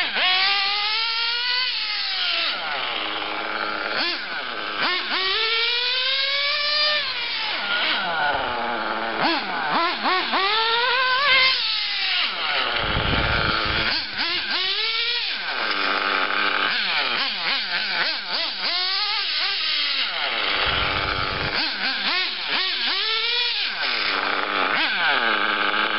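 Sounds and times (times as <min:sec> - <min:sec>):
high-revving nitro engine: 0:00.0 - 0:25.9.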